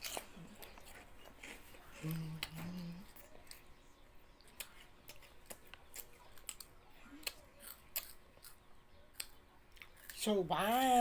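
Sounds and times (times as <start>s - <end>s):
person chewing crunchy snacks: 0.0s - 3.6s, 4.6s - 10.3s.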